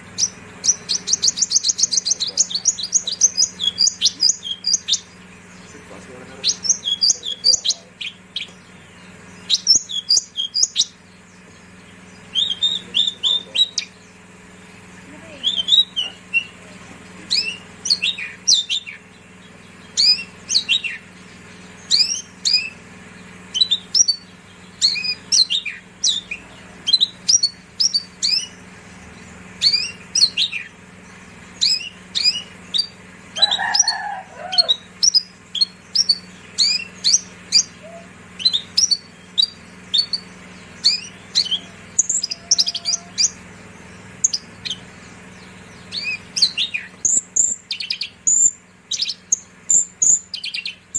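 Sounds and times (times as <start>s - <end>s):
bushlark singing: 0.0s - 50.9s.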